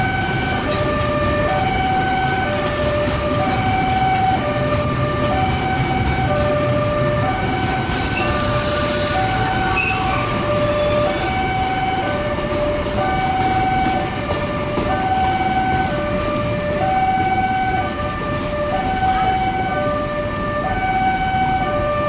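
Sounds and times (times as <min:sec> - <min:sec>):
level crossing alarm tones: 0:00.0 - 0:22.0
train rumbling on track: 0:00.0 - 0:22.0.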